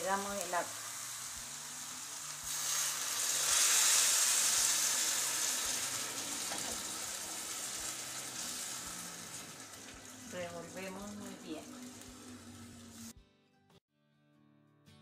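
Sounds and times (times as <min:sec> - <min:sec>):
water sizzling in hot pan: 0:00.0 - 0:13.2.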